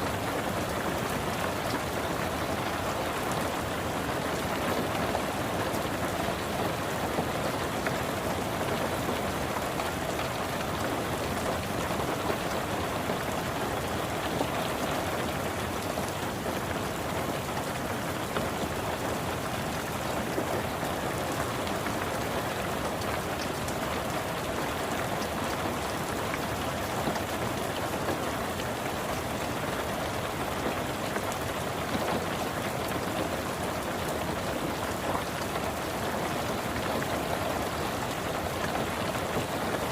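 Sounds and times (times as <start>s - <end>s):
rain hissing on a car: 0.0s - 39.9s
raindrops ticking on roof and glass: 0.0s - 39.9s.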